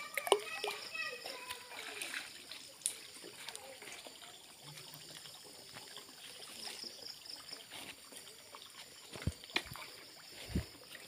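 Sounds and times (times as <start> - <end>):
water sloshing and trickling: 0.0 - 11.0.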